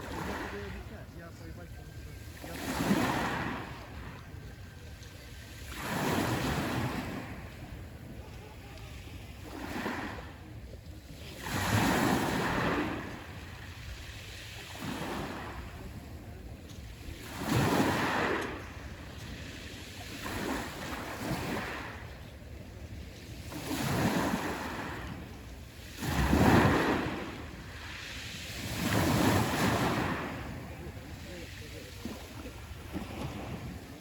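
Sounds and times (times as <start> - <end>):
waves breaking on shore: 0.0 - 34.0.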